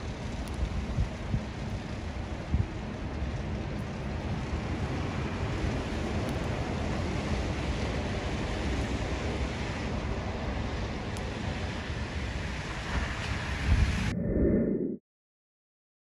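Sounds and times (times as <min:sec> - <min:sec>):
truck engine and tyres on slush: 0:00.0 - 0:14.1.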